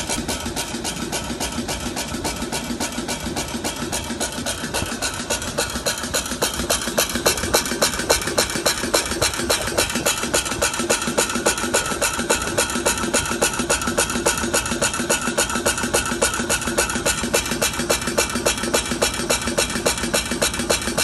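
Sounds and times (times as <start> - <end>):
machine clacking: 0.0 - 21.0
steady mechanical hum: 0.0 - 21.0.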